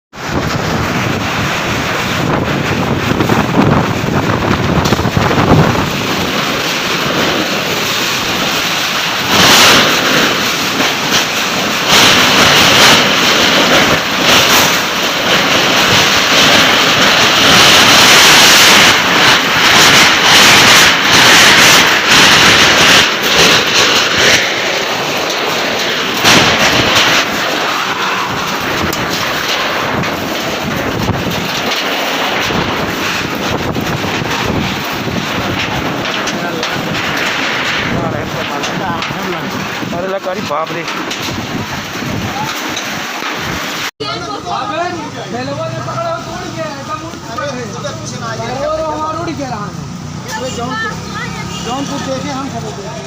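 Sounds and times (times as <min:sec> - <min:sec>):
wind buffeting microphone: 0:00.2 - 0:43.9
storm wind gusting: 0:00.2 - 0:45.0.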